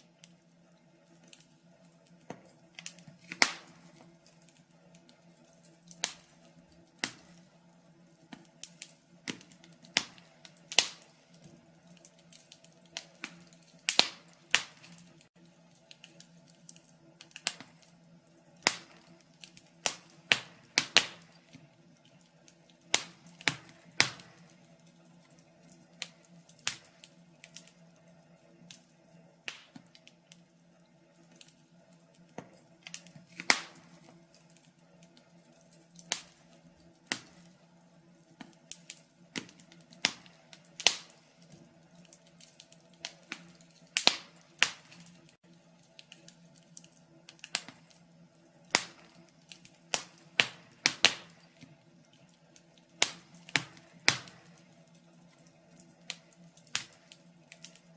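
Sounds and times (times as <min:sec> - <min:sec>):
faint steady hum: 0:00.0 - 0:57.9
wood fire crackling: 0:00.0 - 0:57.9.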